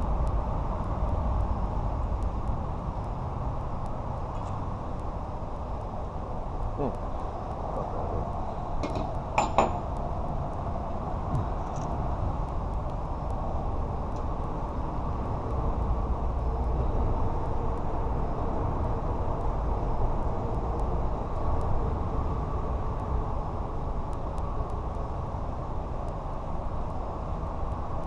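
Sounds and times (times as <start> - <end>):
steady low rumbling: 0.0 - 28.0.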